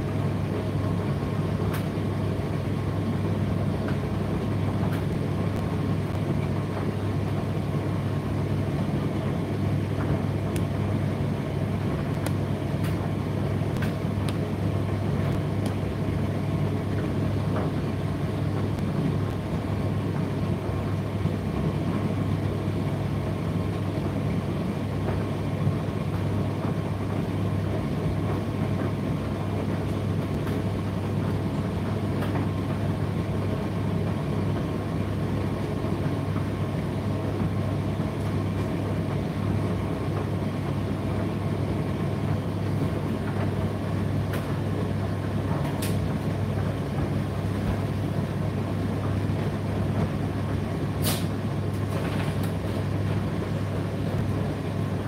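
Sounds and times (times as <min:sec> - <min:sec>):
tumble dryer humming: 0:00.0 - 0:55.0.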